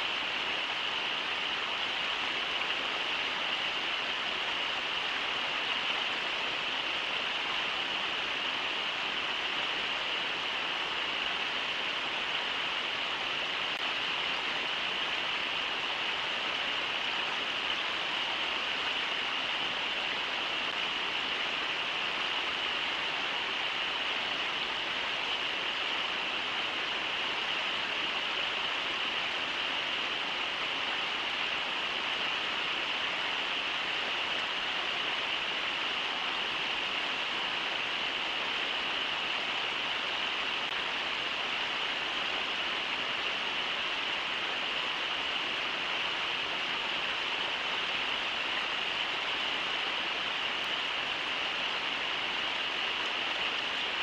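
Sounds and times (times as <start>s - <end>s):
river rushing over riffles: 0.0s - 54.0s.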